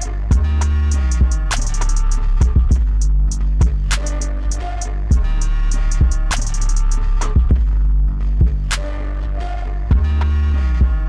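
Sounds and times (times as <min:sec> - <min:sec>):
synth and bass music: 0:00.0 - 0:11.0.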